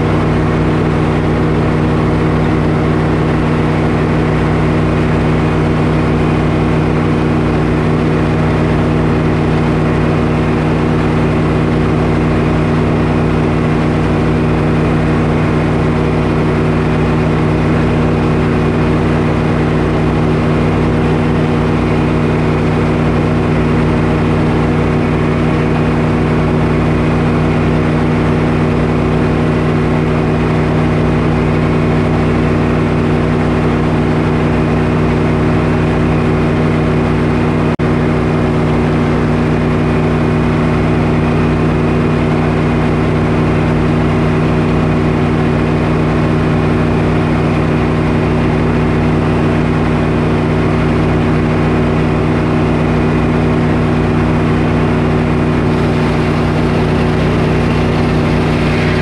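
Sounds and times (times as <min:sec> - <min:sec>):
power unit droning: 0:00.0 - 0:59.0
circular sawmill blade spinning: 0:01.4 - 0:59.0.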